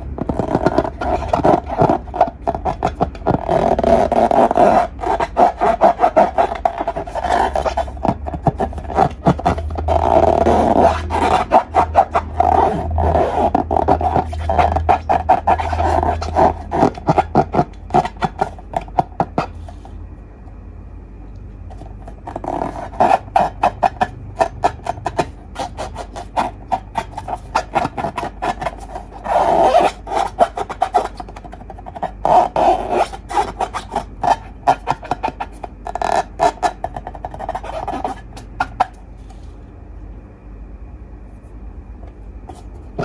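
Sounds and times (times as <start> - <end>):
slime squishing: 0.0 - 19.9, 21.7 - 39.0.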